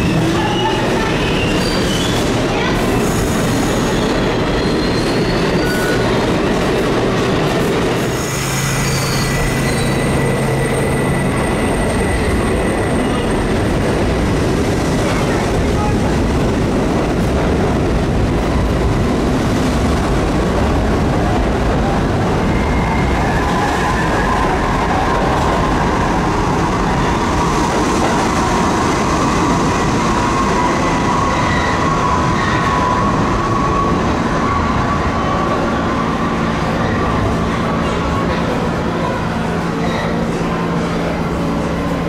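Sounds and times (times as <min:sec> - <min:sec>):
subway train rumbling on rails: 0:00.0 - 0:42.0.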